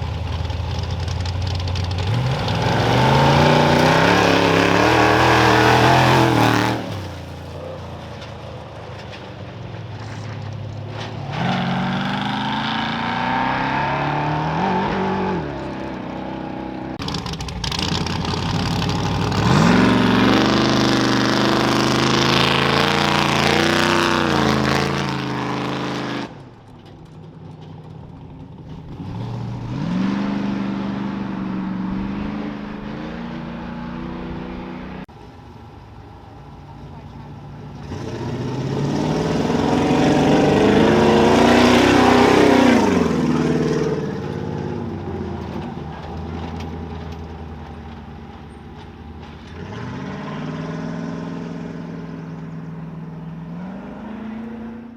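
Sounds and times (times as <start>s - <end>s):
race vehicle engines revving: 0.0s - 54.9s.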